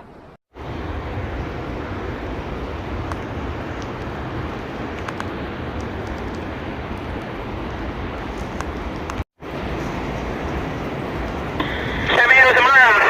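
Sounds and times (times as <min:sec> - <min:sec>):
underground river roaring: 0:00.0 - 0:13.0.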